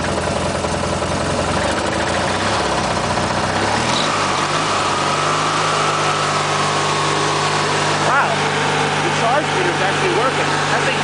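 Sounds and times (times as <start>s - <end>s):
lawn tractor engine revving: 0.0s - 11.0s.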